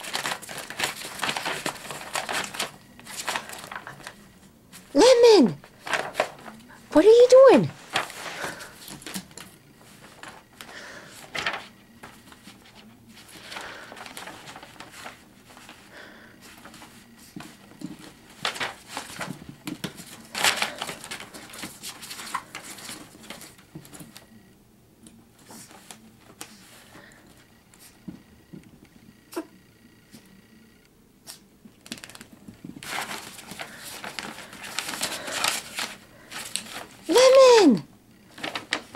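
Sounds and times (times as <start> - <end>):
paper rustling and crinkling: 0.0 - 24.4, 25.1 - 28.0, 31.8 - 38.9.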